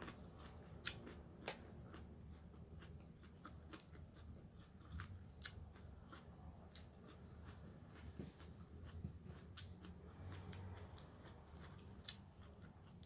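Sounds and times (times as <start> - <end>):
chewing crisp salad: 0.0 - 13.0.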